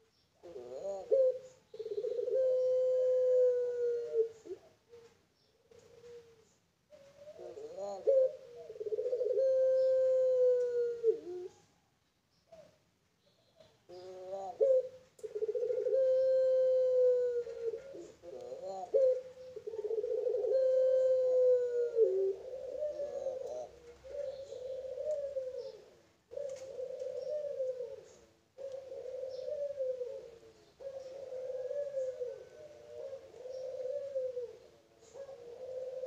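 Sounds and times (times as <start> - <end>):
dove cooing: 0.0 - 11.8, 12.5 - 36.0.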